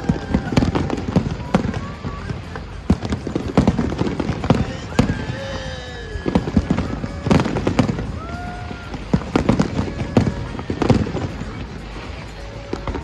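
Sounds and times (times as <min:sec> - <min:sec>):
fireworks bangs: 0:00.0 - 0:13.0
fireworks whistling: 0:00.0 - 0:13.0.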